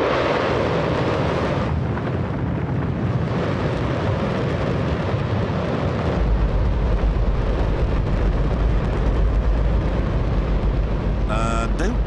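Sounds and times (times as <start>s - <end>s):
rocket engine roaring: 0.0s - 12.0s.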